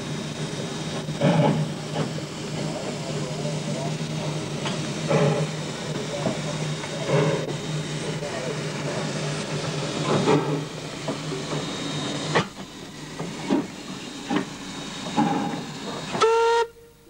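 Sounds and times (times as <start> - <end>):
steam hissing: 0.0 - 16.8
steam locomotive beats: 0.0 - 17.0.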